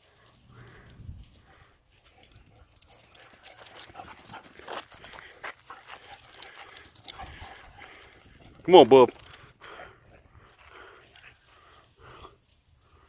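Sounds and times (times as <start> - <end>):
dogs panting: 0.0 - 13.0
dogs scrambling: 0.0 - 13.0.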